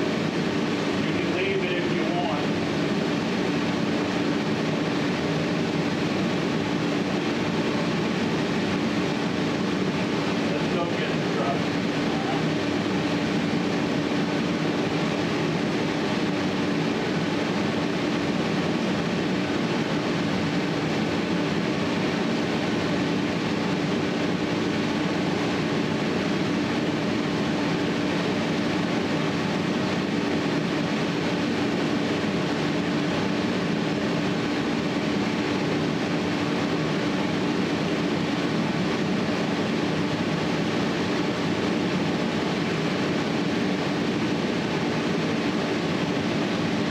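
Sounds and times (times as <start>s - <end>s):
mechanical noise with low hum: 0.0s - 46.9s.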